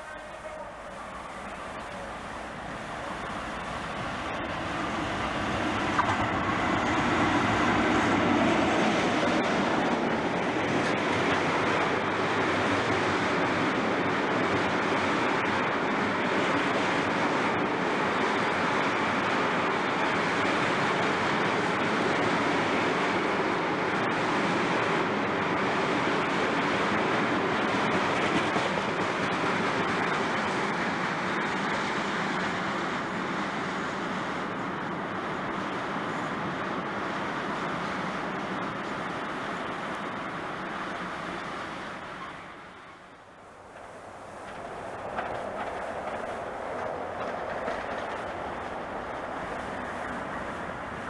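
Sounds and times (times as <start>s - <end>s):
freight train wheels on rails: 0.0s - 51.0s.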